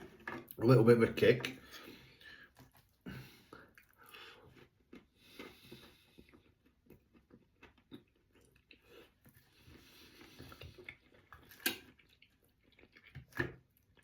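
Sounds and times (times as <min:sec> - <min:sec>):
person chewing: 0:01.7 - 0:14.0.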